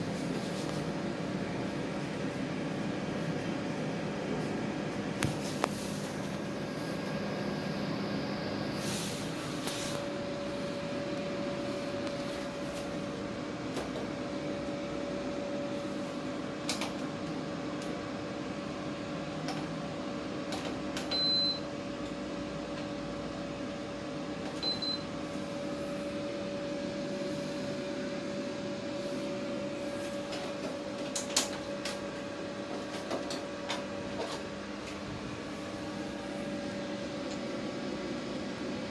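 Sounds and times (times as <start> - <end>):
air conditioner hum and air rush: 0.0 - 38.9.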